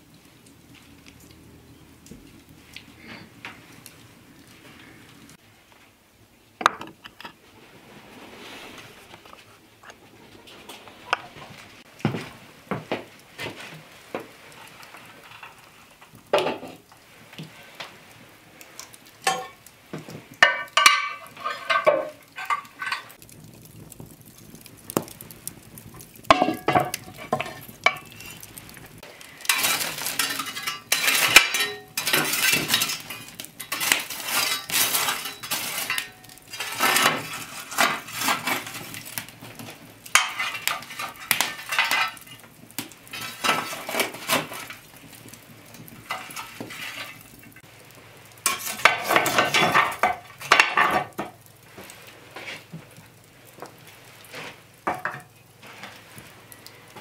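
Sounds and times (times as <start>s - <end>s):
metal shovel scraping coals: 0.3s - 5.4s, 7.0s - 12.4s, 13.0s - 57.0s.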